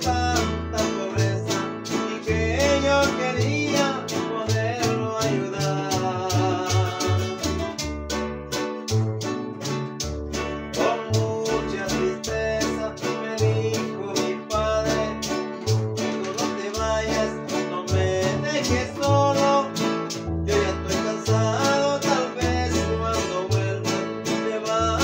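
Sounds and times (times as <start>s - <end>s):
acoustic bass guitar notes: 0.0s - 25.0s
guitars strumming and picking: 0.0s - 25.0s
maracas shaking: 0.0s - 25.0s.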